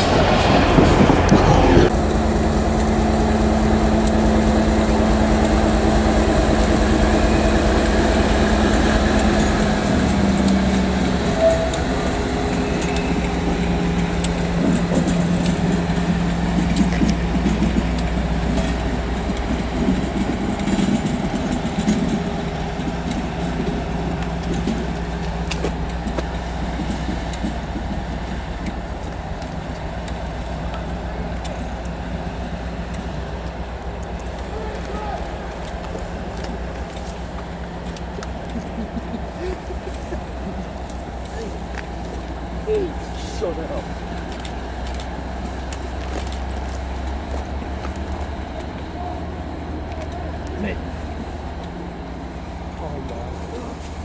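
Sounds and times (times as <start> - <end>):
train engine drone: 0.0 - 54.0.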